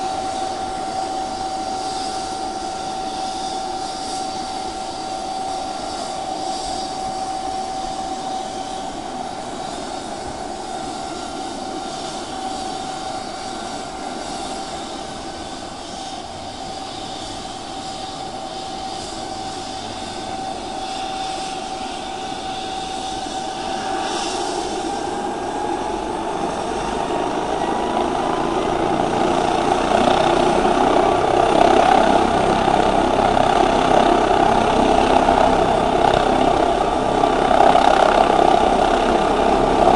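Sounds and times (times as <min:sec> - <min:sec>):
helicopter turbine whining: 0:00.0 - 0:39.9.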